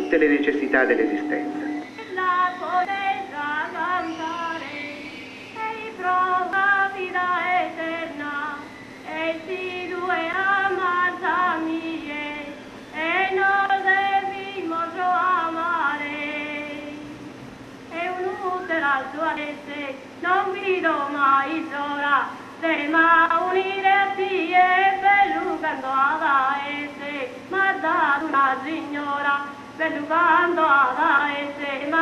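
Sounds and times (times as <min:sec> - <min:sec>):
woman singing folk melody: 0:01.8 - 0:17.1, 0:17.9 - 0:32.0.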